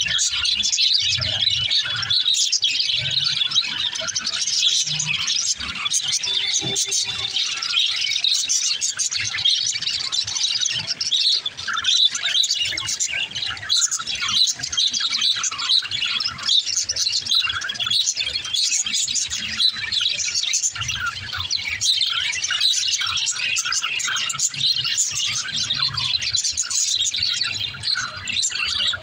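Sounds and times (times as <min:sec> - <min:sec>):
budgerigars chattering and chirping: 0:00.0 - 0:29.0.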